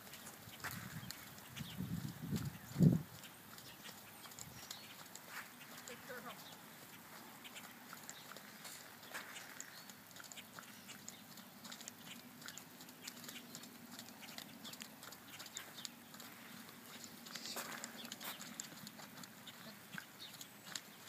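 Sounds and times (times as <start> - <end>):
light rain pattering: 0.0 - 21.0.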